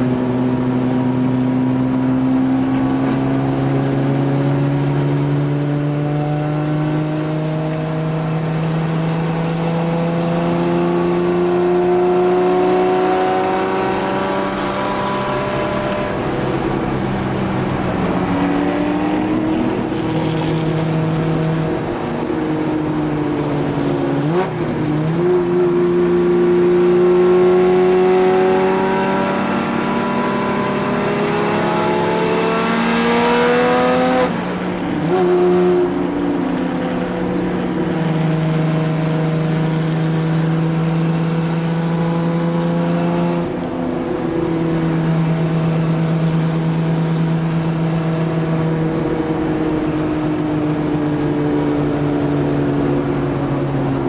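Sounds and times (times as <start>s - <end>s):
racing car engine revving: 2.6s - 22.3s, 24.2s - 54.0s.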